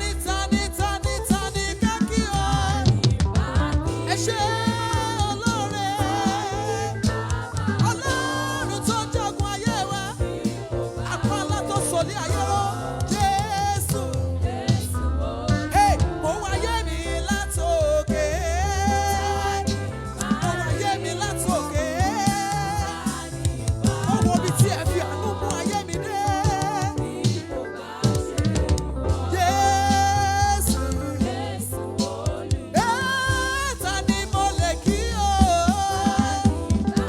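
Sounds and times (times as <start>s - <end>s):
person singing with vibrato: 0.0s - 14.6s, 15.6s - 37.0s
bass line: 0.0s - 37.0s
drums: 0.0s - 37.0s.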